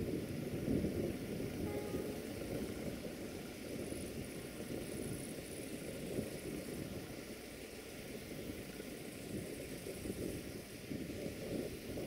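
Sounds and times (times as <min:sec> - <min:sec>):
distant locomotive rumble: 0:00.0 - 0:11.9
wind buffeting microphone: 0:00.0 - 0:12.0.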